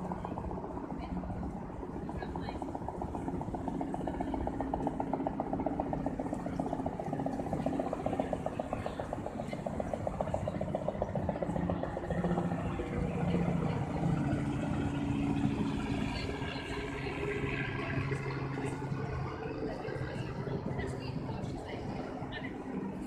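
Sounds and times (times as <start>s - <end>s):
engine pulsing rattle: 0.0s - 23.0s
steady low hum: 0.0s - 23.0s.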